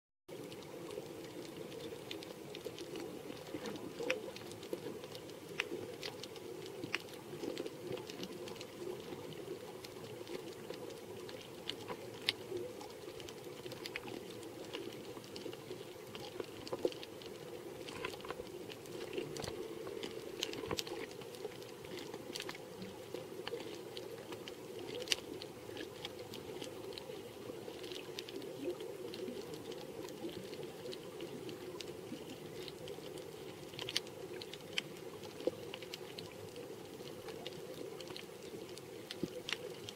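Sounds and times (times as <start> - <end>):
muffled underwater hiss: 0.3 - 39.9
sharp underwater clicks and crackles: 0.3 - 39.9.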